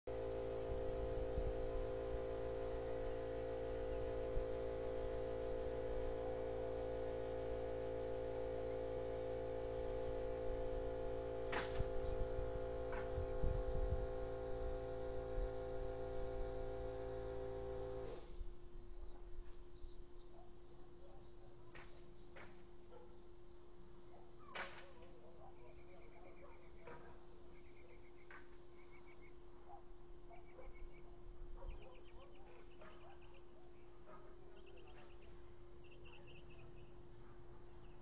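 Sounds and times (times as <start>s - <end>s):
steady hum of held tones: 0.0s - 38.0s.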